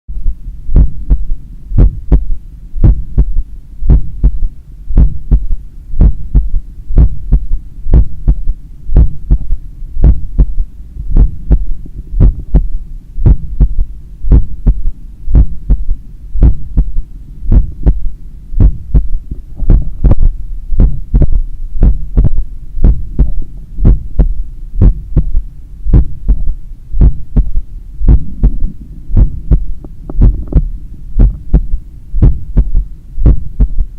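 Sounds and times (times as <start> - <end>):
steady low rumble: 0.1 - 33.9
heartbeat through stethoscope: 0.2 - 33.9.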